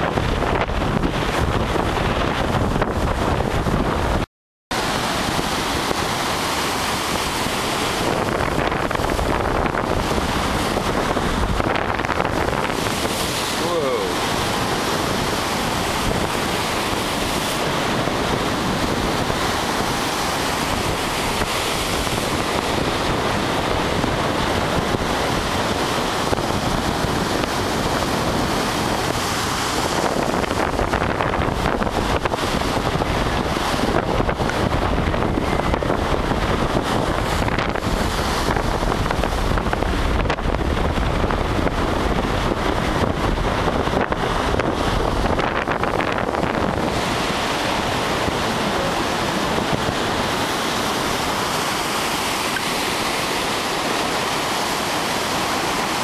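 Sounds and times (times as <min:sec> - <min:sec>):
waves breaking on beach: 0:00.0 - 0:56.0
wind buffeting microphone: 0:00.0 - 0:56.0.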